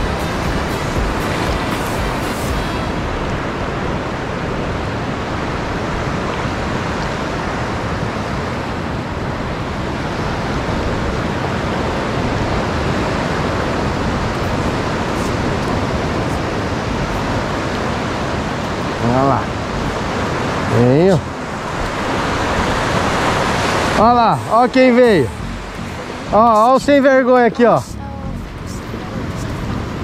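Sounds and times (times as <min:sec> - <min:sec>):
ocean surf breaking on beach: 0:00.0 - 0:30.0.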